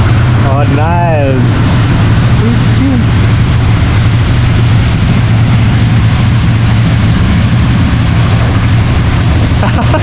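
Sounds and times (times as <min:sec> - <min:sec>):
quad bike engine droning: 0:00.0 - 0:10.0
rushing hiss: 0:00.0 - 0:10.0.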